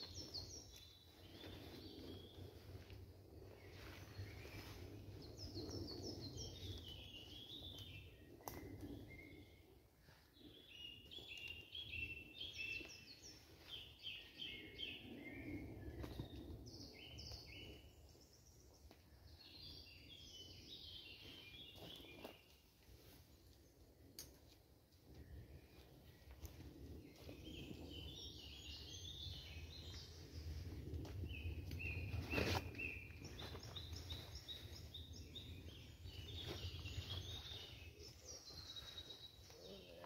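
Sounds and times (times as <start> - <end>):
woodland birds singing: 0.0 - 40.0.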